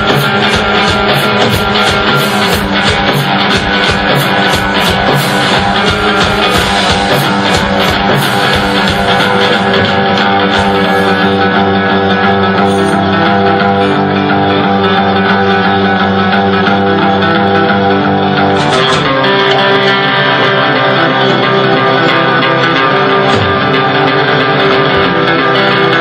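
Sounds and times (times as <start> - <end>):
distorted guitar drone: 0.0 - 26.0.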